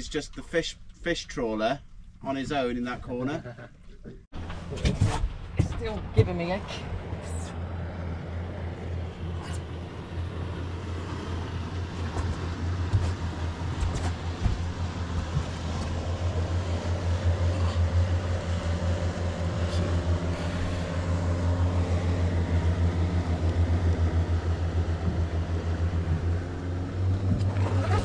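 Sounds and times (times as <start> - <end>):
outboard engine idling: 4.4 - 28.0.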